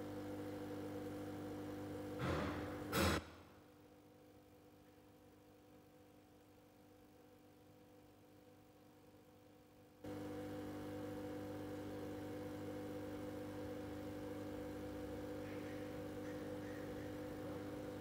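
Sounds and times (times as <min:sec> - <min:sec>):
steady electric hum: 0:00.0 - 0:18.0.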